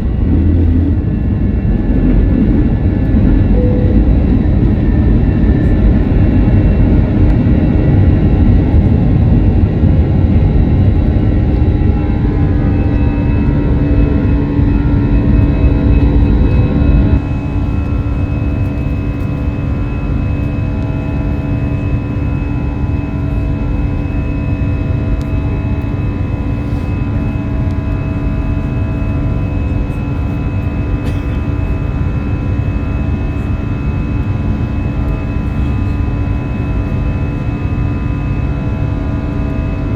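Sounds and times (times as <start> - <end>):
jet engines at high power: 0.0 - 39.9.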